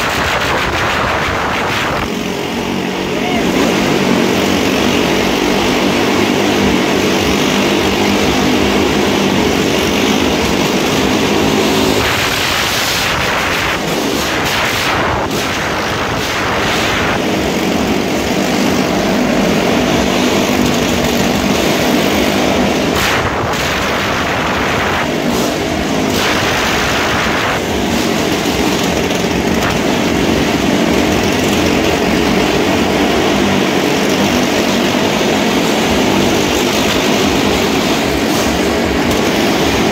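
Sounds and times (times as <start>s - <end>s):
motorcycle engines at high revs: 0.0s - 39.9s.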